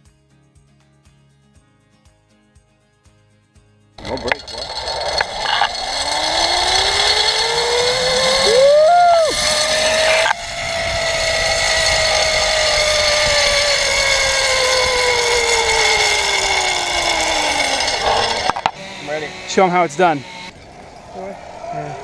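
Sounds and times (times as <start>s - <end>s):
short higher glide: 4.0s - 22.0s
zipline pulleys whining on cable: 4.0s - 22.0s.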